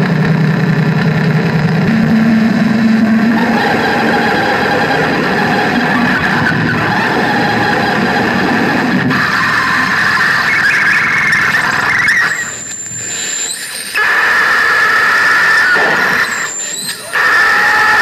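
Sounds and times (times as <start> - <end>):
harsh electronic noise music: 0.0 - 18.0.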